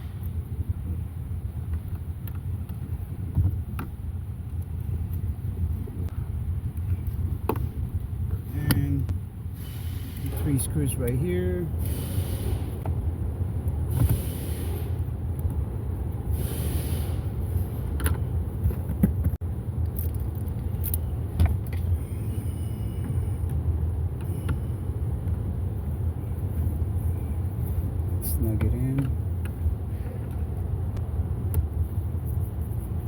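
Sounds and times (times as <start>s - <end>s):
low vehicle rumble: 0.0s - 33.0s.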